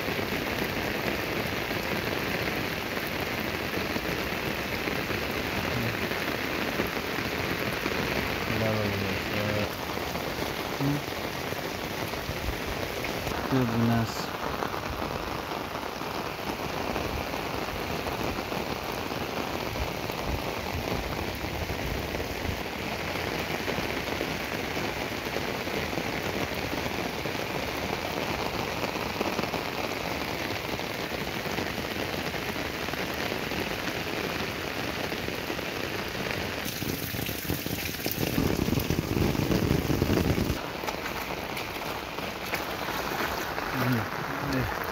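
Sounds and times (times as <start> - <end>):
rain on waterlogged ground: 0.0 - 44.9.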